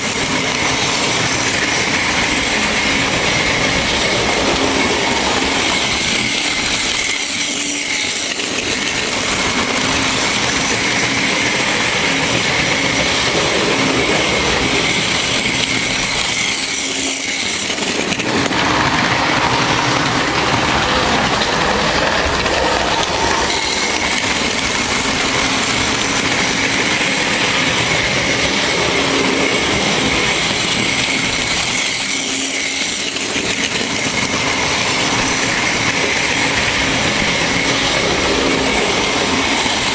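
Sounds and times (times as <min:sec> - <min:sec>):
model train wheels clattering: 0:00.0 - 0:39.9.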